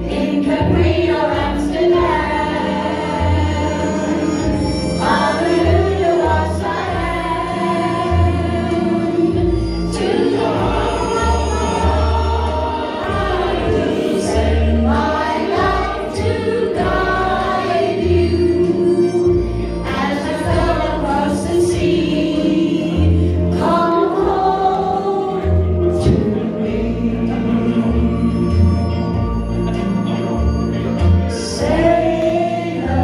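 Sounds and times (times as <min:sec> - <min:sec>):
women singing in unison: 0:00.0 - 0:04.4, 0:05.0 - 0:19.0, 0:19.9 - 0:28.2, 0:31.4 - 0:33.0
instrumental backing track: 0:00.0 - 0:33.0.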